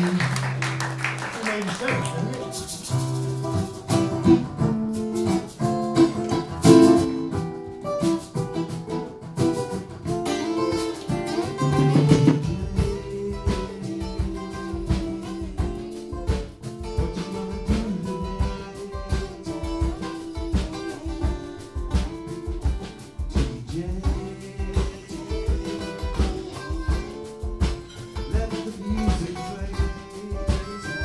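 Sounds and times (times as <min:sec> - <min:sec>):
acoustic guitar strumming: 0:00.0 - 0:31.0
electric guitar playing: 0:00.0 - 0:31.0.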